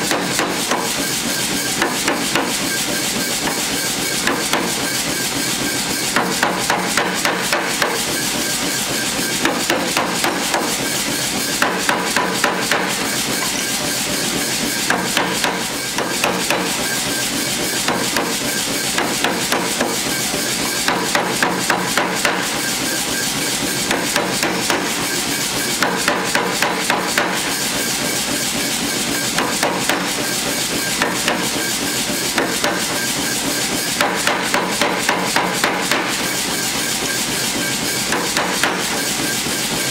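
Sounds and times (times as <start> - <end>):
hammer striking hot steel: 0.0 - 28.2, 29.3 - 39.6.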